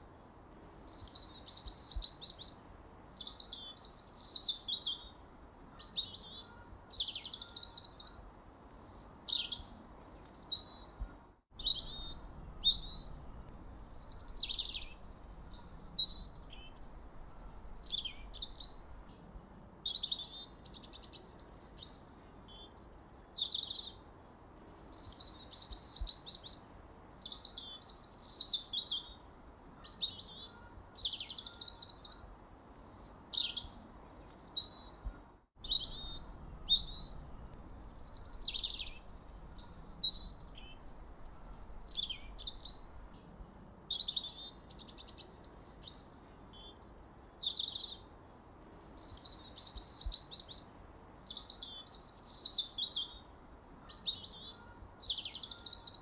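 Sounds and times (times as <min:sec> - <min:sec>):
faint background hiss: 0:00.0 - 0:56.0
songbirds chirping and warbling: 0:00.5 - 0:24.0, 0:24.6 - 0:56.0.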